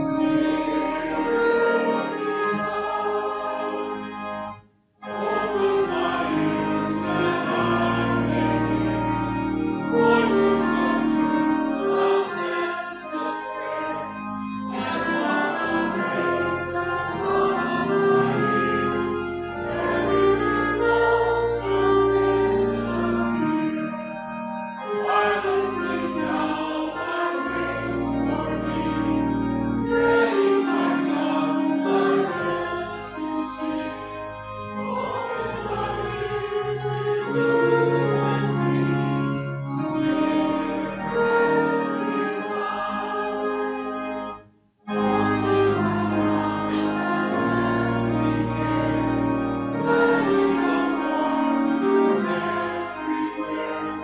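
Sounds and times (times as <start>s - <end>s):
congregation singing a hymn: 0.0s - 54.0s
organ playing: 0.0s - 54.0s.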